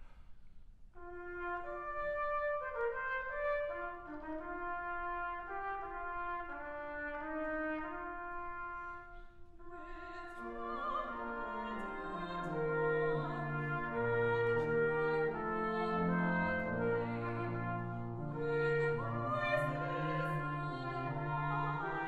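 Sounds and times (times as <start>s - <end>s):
brass ensemble playing chords: 1.0s - 22.0s.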